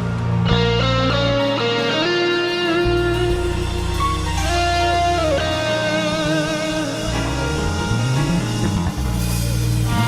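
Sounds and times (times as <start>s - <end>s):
sliding guitar-like lead notes: 0.0s - 10.0s
steady bass line: 0.0s - 10.0s.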